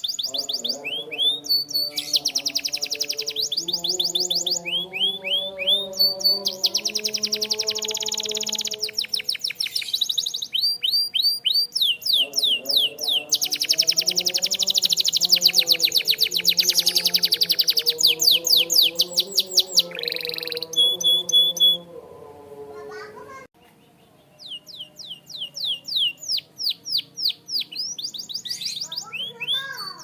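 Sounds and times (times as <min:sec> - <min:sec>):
canary singing trills: 0:00.0 - 0:21.9, 0:23.6 - 0:30.0.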